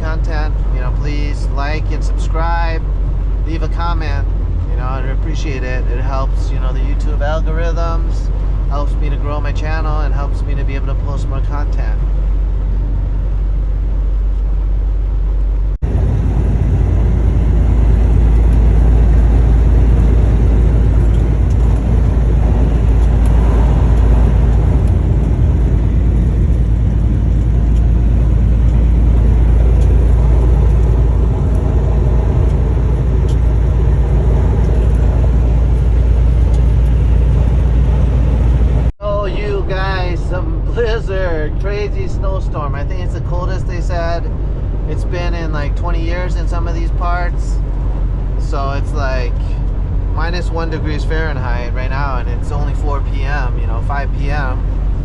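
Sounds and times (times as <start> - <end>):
truck engine and road noise: 0.0 - 55.0.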